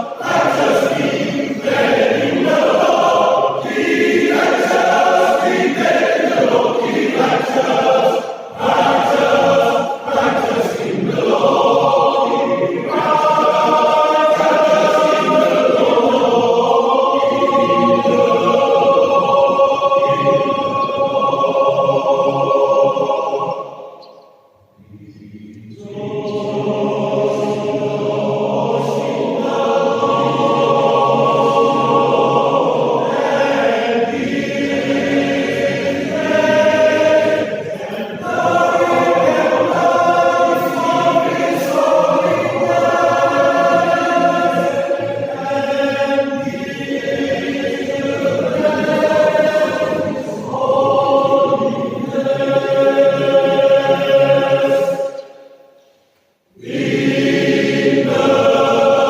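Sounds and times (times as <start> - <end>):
men's choir singing in harmony: 0.0 - 59.0.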